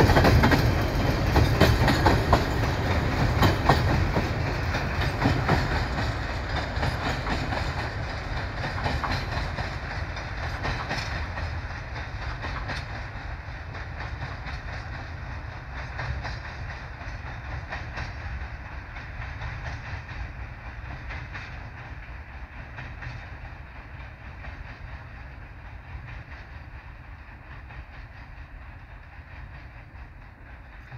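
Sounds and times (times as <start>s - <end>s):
freight train rumble: 0.0s - 30.9s
wheels clicking over rail joints: 0.0s - 30.9s.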